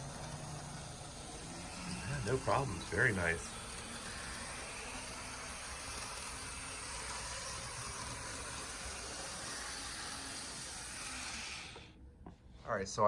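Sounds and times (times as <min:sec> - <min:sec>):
model train motor and wheels hissing: 0:00.0 - 0:12.0.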